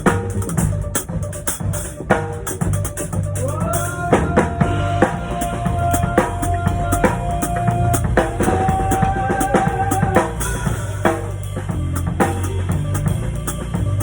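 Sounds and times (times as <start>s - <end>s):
drum kit beat: 0.0s - 14.0s.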